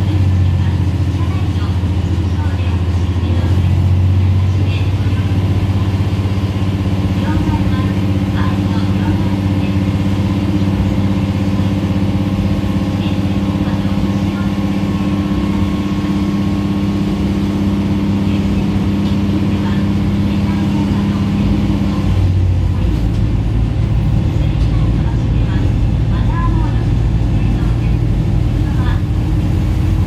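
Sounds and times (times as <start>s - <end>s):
diesel railcar engine drone: 0.0s - 30.0s.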